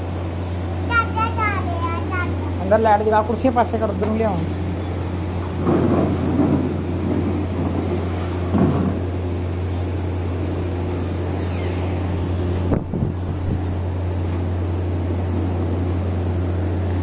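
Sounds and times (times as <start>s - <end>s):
low electric hum: 0.0s - 17.0s.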